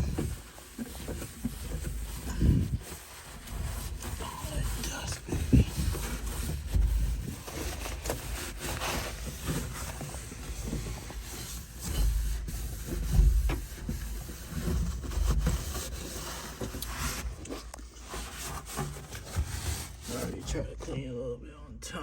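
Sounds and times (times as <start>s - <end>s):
rubbing and scraping: 0.0s - 21.1s.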